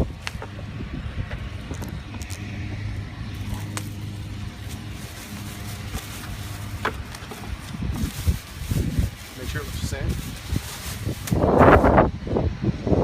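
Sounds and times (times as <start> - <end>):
motor vehicle running: 0.0 - 12.8.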